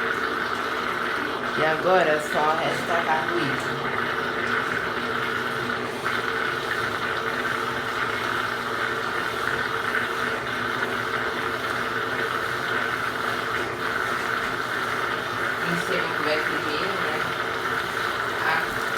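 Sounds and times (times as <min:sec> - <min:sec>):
drain pump humming: 0:00.0 - 0:18.9
washing machines running: 0:00.0 - 0:18.9.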